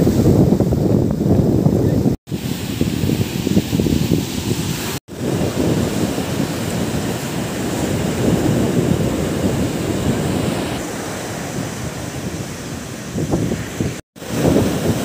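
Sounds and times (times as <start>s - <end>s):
wind rumbling on microphone: 0.0s - 15.0s
waves breaking on beach: 2.3s - 15.0s.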